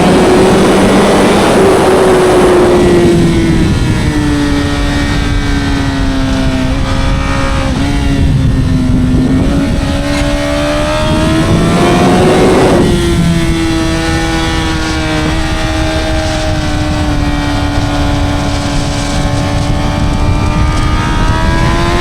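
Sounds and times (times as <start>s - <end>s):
motorcycle engine revving high: 0.0s - 22.0s.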